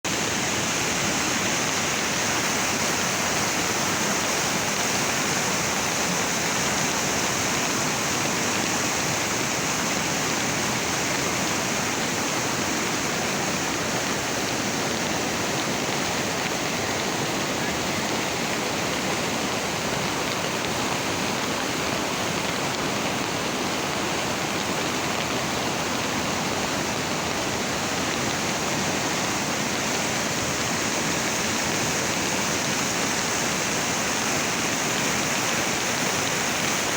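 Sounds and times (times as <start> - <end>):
floodwater rushing in river: 0.1 - 36.9.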